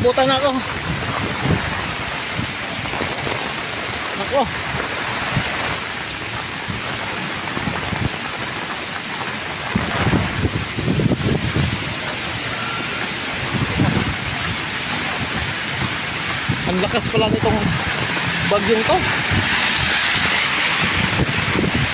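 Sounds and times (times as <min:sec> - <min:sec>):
heavy rain pouring on road: 0:00.0 - 0:21.9
rain drumming on umbrella: 0:00.0 - 0:21.9
wind buffeting microphone: 0:00.0 - 0:21.9.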